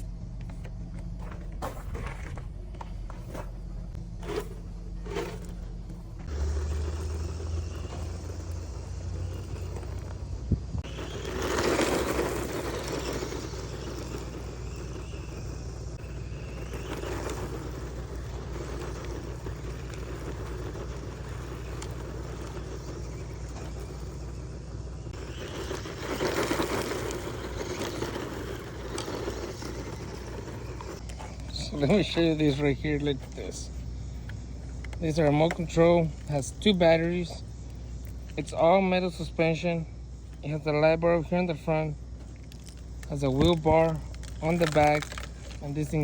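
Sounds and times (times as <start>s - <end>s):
rc truck scraping rumble: 0.0s - 46.0s.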